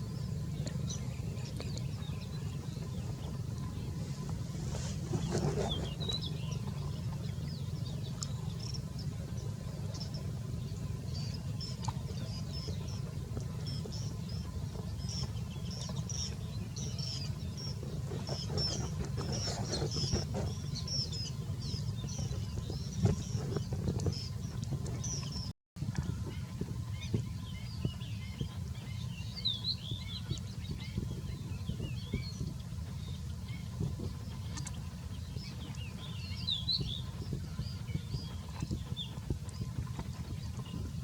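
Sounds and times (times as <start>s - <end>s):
small birds chirping: 0.0s - 41.0s
steady low hum: 0.0s - 41.0s.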